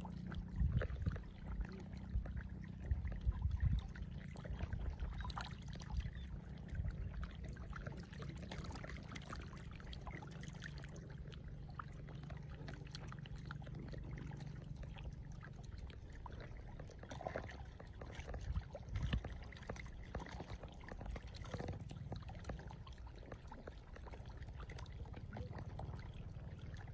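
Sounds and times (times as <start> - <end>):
steady low rumble: 0.0 - 26.9
stream trickling and splashing: 0.0 - 26.9.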